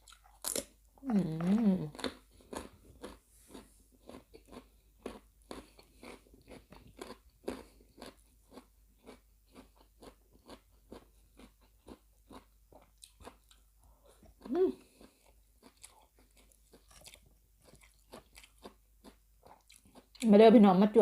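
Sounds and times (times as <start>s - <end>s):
person chewing crunchy food: 0.0s - 20.3s.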